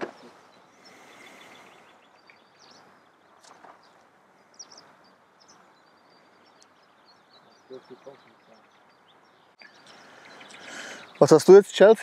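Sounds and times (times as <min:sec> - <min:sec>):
faint bird chirps: 0:00.0 - 0:11.4.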